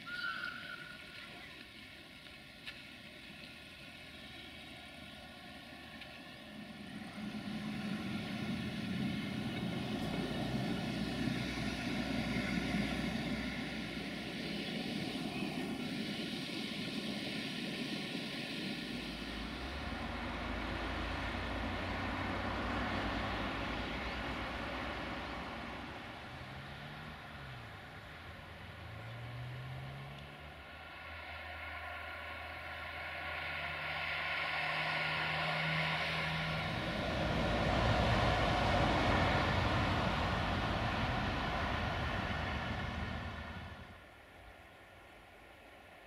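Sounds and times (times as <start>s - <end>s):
propeller aircraft engine droning: 0.0s - 46.0s.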